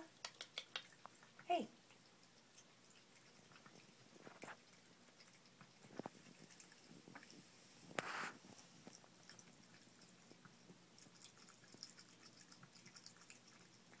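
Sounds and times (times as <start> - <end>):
cat lapping water: 0.1 - 14.0.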